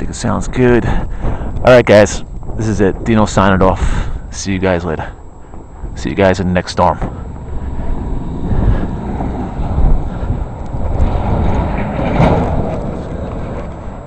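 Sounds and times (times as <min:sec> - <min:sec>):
wind gusting over microphone: 0:00.0 - 0:14.0.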